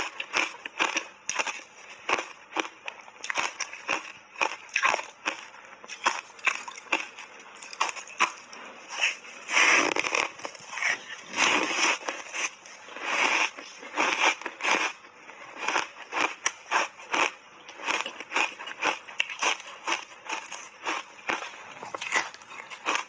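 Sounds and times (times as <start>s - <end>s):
ice being crunched and chewed: 0.0s - 23.0s.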